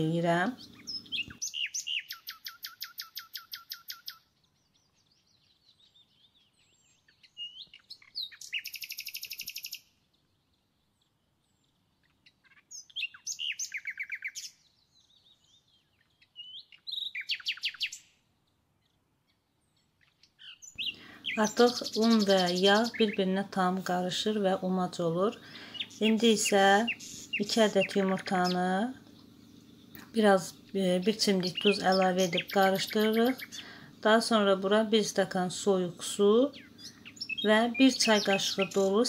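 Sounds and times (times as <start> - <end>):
songbird trilling: 0.0 - 18.2, 19.7 - 39.0
bird chirps: 0.0 - 39.0.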